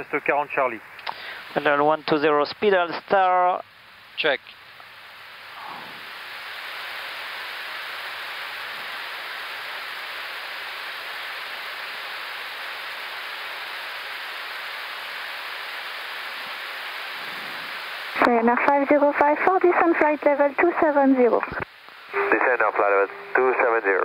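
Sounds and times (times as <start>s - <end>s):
air conditioning hiss: 0.0s - 24.0s.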